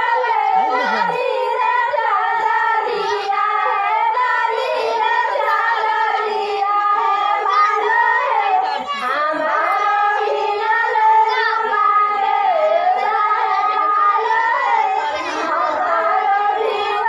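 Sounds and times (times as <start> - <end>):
group of women singing: 0.0 - 17.0.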